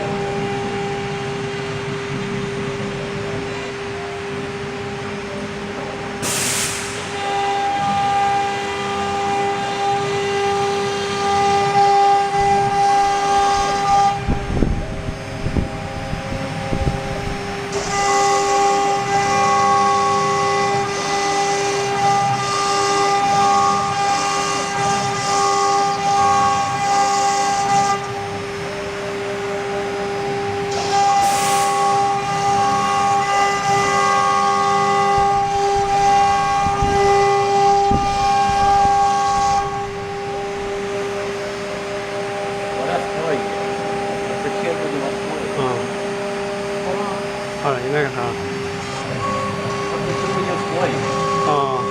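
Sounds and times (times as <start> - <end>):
router spindle whining: 6.8 - 51.9.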